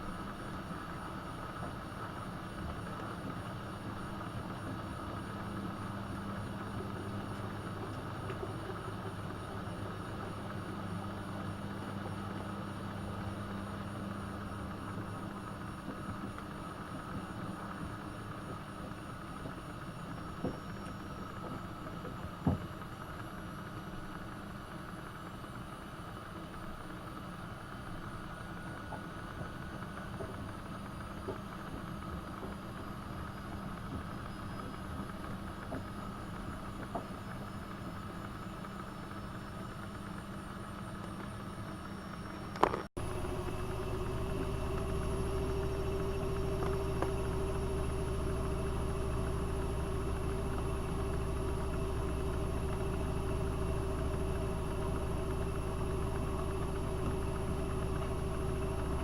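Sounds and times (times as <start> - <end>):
washing machine humming: 0.0 - 59.0.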